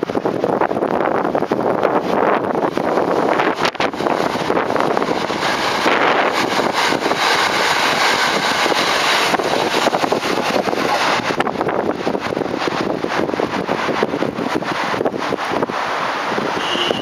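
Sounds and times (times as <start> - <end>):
electric train running on rails: 0.0 - 17.0.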